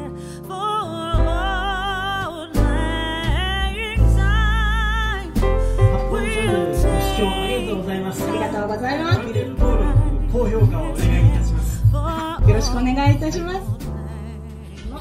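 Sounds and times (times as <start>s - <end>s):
bass line: 1.1s - 15.0s.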